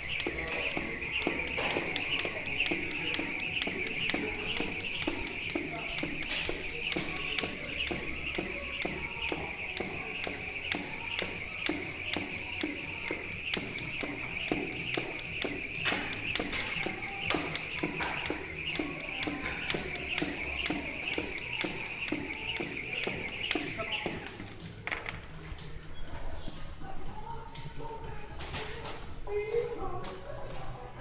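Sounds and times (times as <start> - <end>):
jump rope slapping floor: 0.0 - 25.3.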